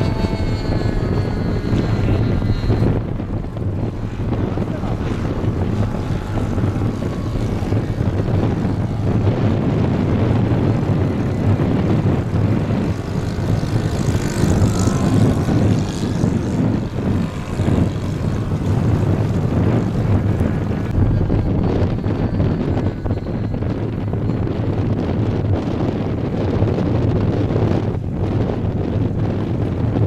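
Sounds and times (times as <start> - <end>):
model plane engine droning: 0.0 - 30.0
wind buffeting microphone: 0.0 - 30.0.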